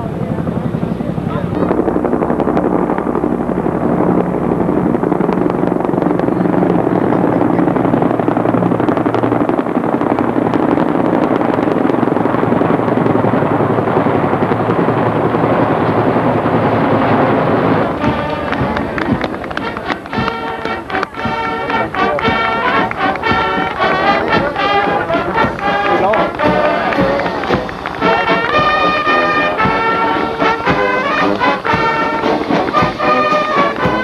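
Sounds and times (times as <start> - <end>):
helicopter rotors chopping: 0.0 - 34.0
music: 0.0 - 34.0.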